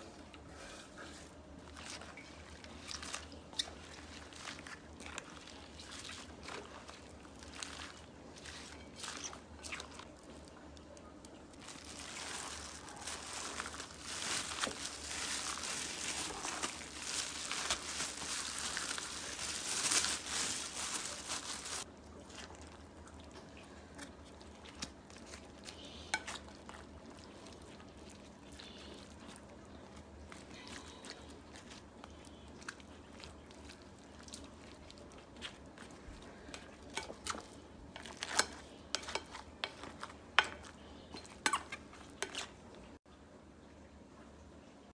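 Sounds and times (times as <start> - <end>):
hands mixing vegetables in bowl: 0.0 - 43.0.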